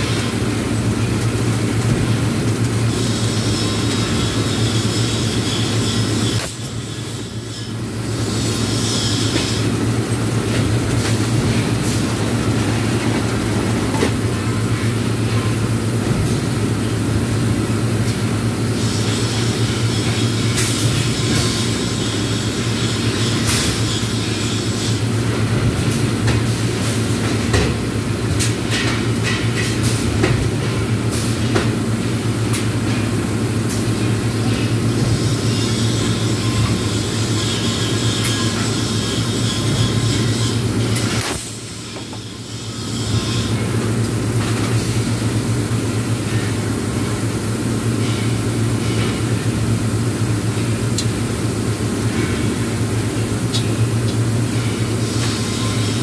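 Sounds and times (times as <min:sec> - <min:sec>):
electrical hum and machine rumble: 0:00.0 - 0:56.0.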